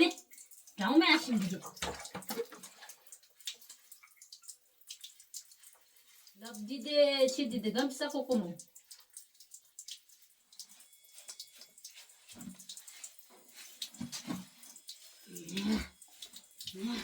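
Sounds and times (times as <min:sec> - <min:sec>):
water splashing and dripping: 0:00.0 - 0:17.0.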